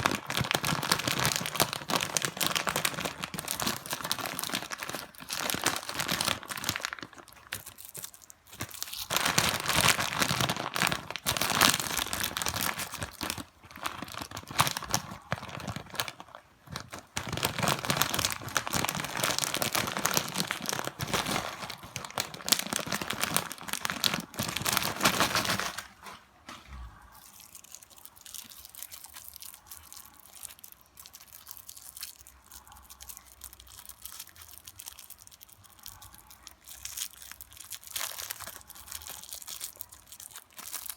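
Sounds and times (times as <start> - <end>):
plastic wrappers crinkling: 0.0 - 40.9
wrapper tearing: 0.0 - 40.9.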